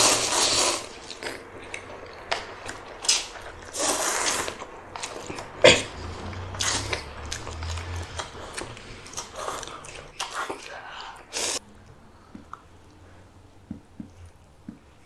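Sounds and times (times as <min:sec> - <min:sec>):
chewing food: 0:00.0 - 0:13.0
breathy rush of noise: 0:00.0 - 0:13.6.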